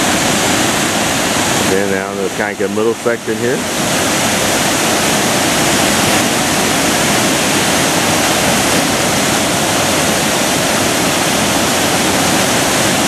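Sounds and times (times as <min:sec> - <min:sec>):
waterfalls rushing: 0:00.0 - 0:13.0.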